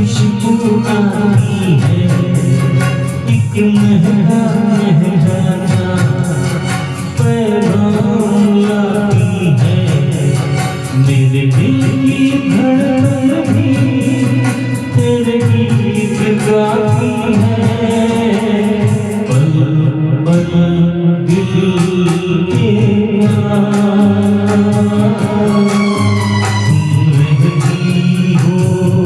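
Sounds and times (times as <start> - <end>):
percussion beat: 0.0 - 19.7, 21.3 - 29.0
person singing: 0.0 - 29.0.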